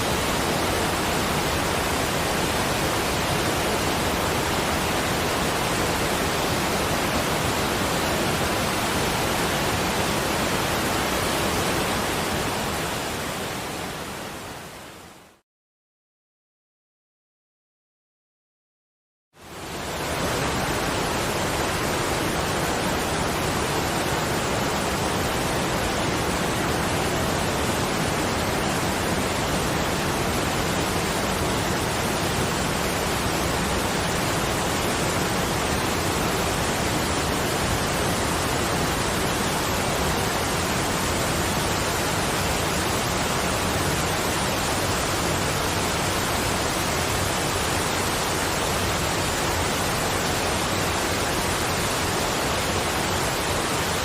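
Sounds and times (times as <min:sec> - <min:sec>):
falling water rushing: 0:00.0 - 0:14.8, 0:19.4 - 0:54.0.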